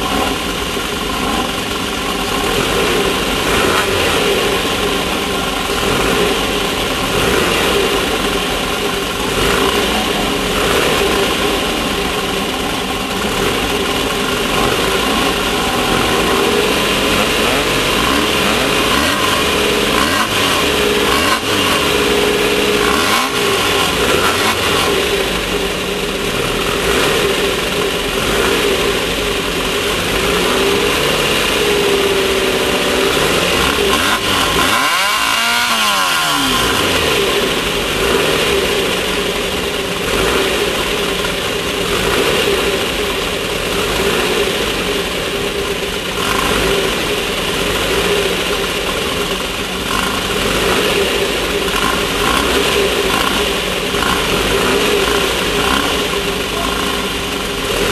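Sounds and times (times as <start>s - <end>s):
race car engine running hard: 0.0s - 57.9s.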